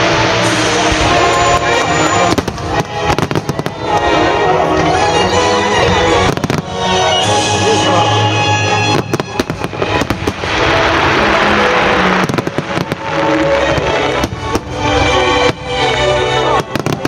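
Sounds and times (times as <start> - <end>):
fireworks bursting: 0.0 - 17.0
fireworks crackling: 0.0 - 17.0
music on loudspeakers: 0.0 - 17.0.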